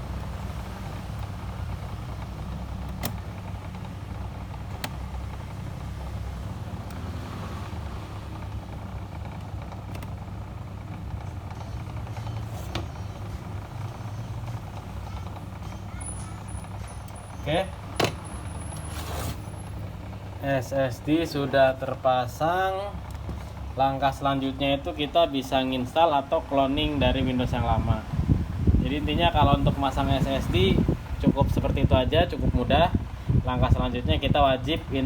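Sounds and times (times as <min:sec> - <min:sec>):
low background rumble with hiss: 0:00.0 - 0:35.0.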